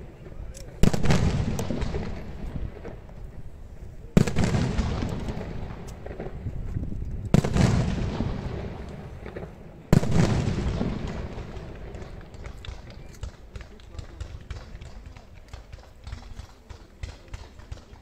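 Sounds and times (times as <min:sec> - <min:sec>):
fireworks bangs with echo: 0:00.0 - 0:18.0.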